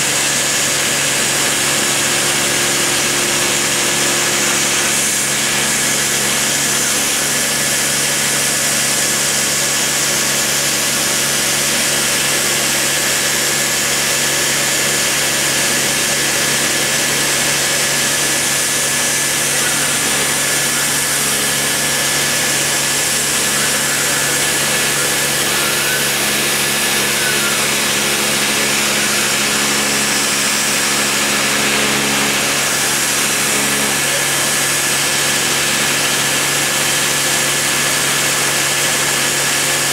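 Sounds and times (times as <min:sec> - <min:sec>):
rotary tool cutting mdf: 0:00.0 - 0:39.9.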